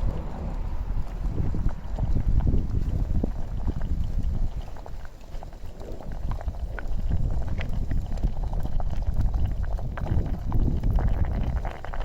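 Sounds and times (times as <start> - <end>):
campfire crackling and popping: 0.0 - 12.0
wind buffeting microphone: 0.0 - 12.0.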